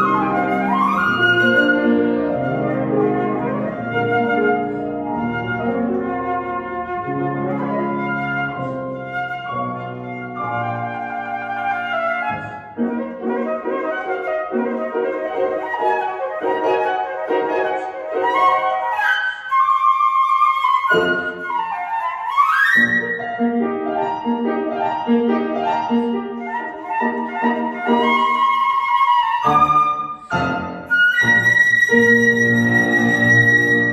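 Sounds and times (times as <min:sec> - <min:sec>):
flute melody: 0:00.0 - 0:33.9
piano accompaniment: 0:00.0 - 0:33.9.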